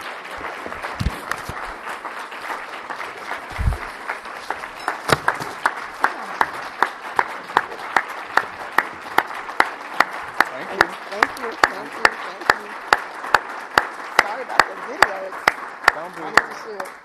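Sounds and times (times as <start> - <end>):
audience applauding: 0.0 - 17.0
person clapping close to microphone: 0.0 - 17.0.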